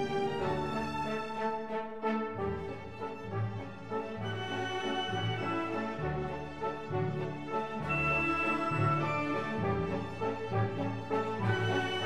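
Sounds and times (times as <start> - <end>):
orchestral chords: 0.0 - 12.0.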